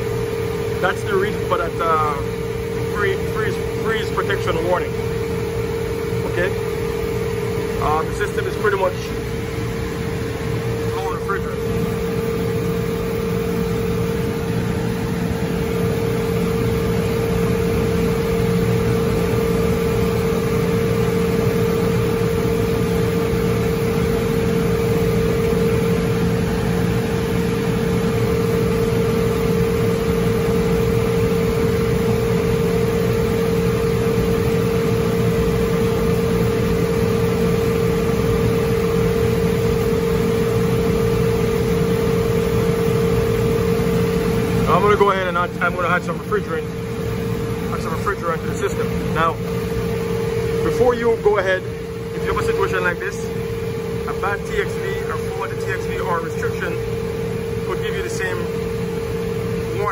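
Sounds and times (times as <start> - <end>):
cooling unit humming: 0.0 - 59.9.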